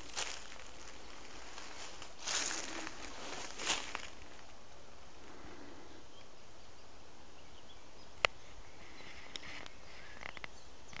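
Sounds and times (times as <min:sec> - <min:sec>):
faint woodland hiss: 0:00.0 - 0:11.0.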